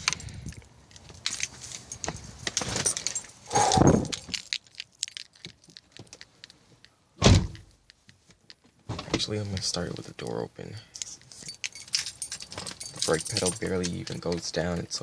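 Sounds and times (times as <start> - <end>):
car keys jangling: 0.0 - 8.6, 10.8 - 14.9.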